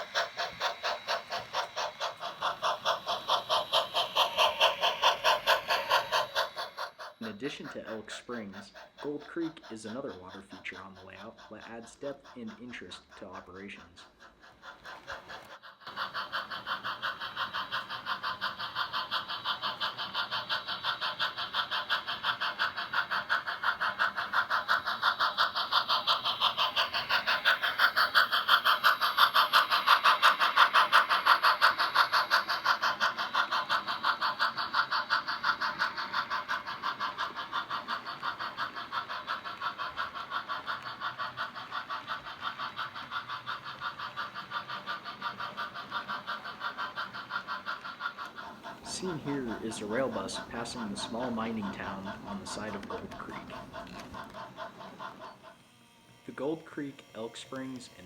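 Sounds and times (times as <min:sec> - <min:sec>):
model train chuffing: 0:00.0 - 0:58.0.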